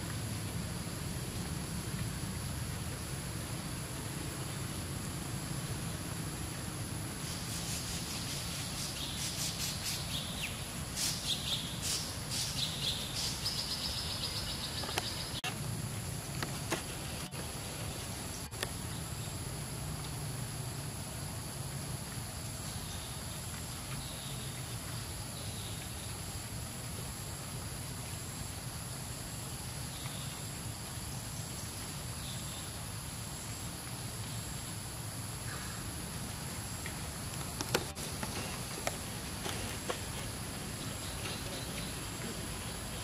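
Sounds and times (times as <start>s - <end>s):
high insect drone: 0.0s - 43.0s.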